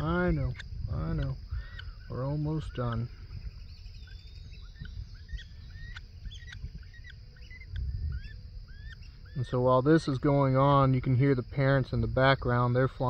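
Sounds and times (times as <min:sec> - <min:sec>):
high insect drone: 0:00.0 - 0:13.0
woodpeckers chirping: 0:00.0 - 0:13.0.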